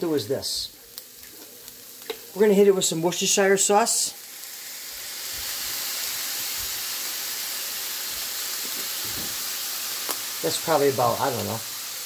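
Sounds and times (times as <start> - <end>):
meat sizzling in skillet: 0.0 - 12.0.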